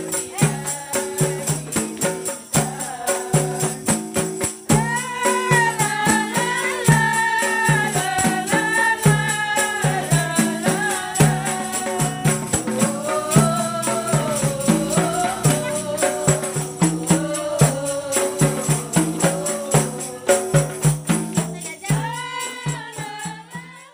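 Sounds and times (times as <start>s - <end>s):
frame drums beating: 0.0s - 23.9s
woman singing: 0.0s - 23.9s.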